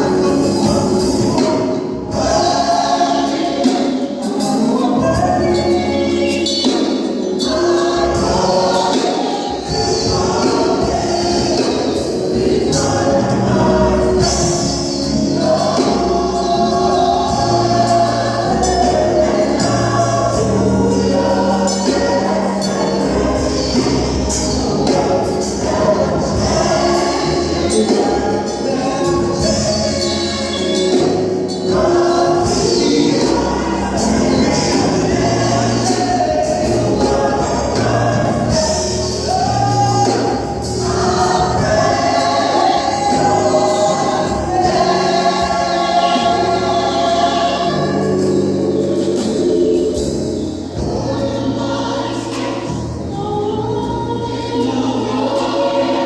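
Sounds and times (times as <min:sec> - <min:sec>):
drums keeping a beat: 0:00.0 - 0:53.5
choir singing gospel: 0:00.0 - 0:56.0
bass guitar: 0:09.7 - 0:54.9.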